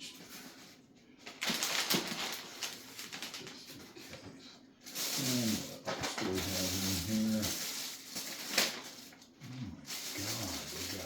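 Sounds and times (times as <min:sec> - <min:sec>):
packaging rustling and crinkling: 0:00.0 - 0:04.2, 0:04.8 - 0:11.0.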